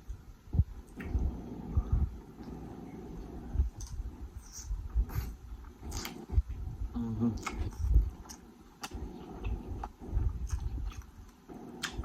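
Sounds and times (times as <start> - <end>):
person chewing: 2.3 - 12.0.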